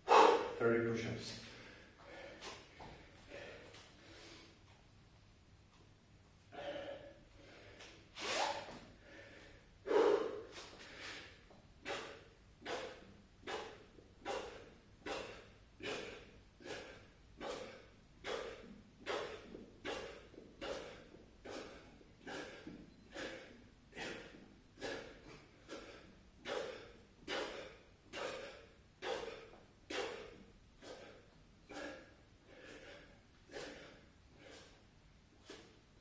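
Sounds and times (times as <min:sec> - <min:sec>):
man breathing hard: 0:00.0 - 0:00.6, 0:01.3 - 0:04.7, 0:06.4 - 0:36.0.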